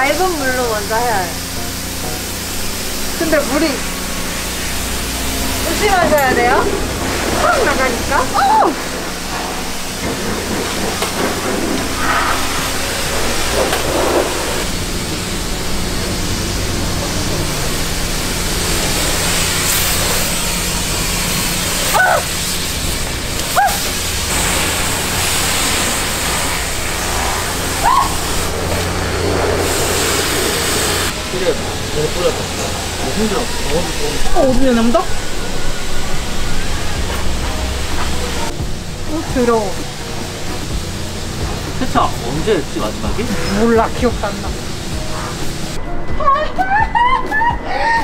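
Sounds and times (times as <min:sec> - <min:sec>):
pressure washer spraying water: 0:00.0 - 0:45.8
pump humming: 0:00.0 - 0:45.9.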